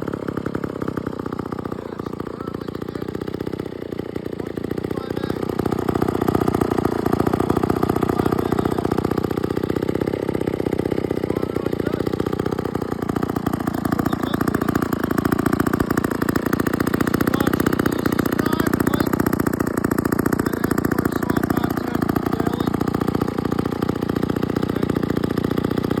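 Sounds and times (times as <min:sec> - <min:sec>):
chainsaw engine running: 0:00.0 - 0:26.0.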